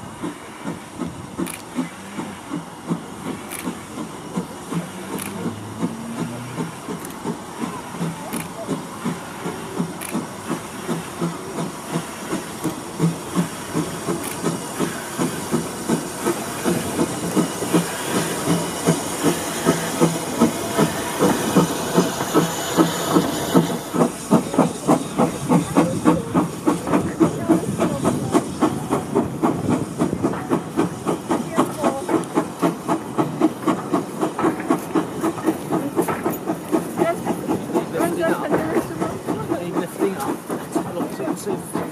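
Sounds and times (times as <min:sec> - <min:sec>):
hiss of steam: 0:00.0 - 0:41.9
steam locomotive chuffing: 0:00.0 - 0:41.9.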